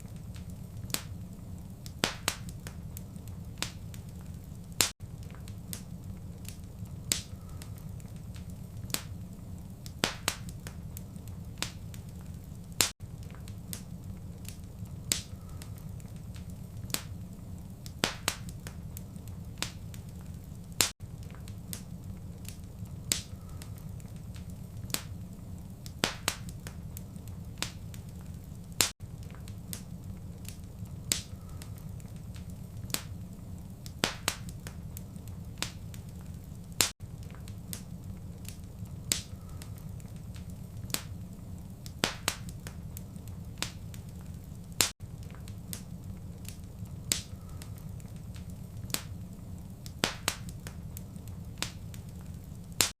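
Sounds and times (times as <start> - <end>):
low rumble of fire: 0.0 - 53.0
wood fire popping: 0.0 - 53.0.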